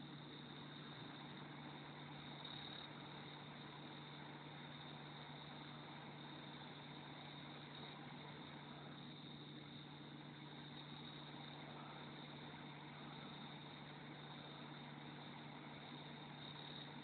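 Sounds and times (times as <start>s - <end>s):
faint low hum: 0.0s - 17.0s
steady hiss: 0.0s - 17.0s.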